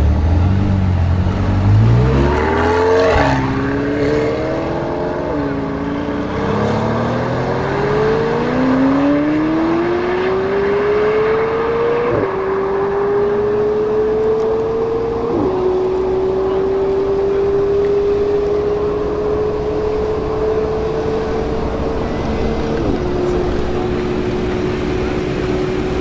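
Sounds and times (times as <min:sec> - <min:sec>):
engine upshifts: 0:00.0 - 0:26.0
engines accelerating hard: 0:00.0 - 0:26.0.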